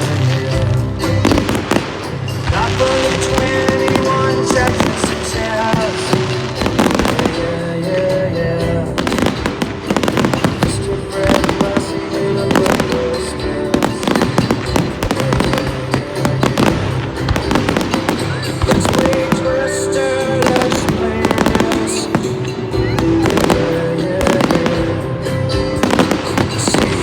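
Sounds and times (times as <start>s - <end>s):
fireworks banging and crackling: 0.0s - 27.0s
loud music: 0.0s - 27.0s.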